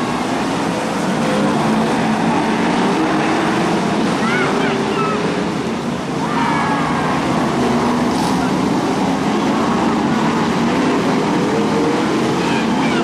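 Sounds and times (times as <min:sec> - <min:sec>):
racing car engines: 0:00.0 - 0:13.0.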